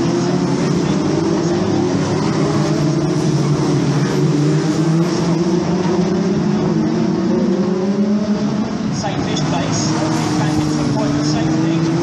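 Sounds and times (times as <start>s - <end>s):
racing car engines running: 0.0s - 12.0s.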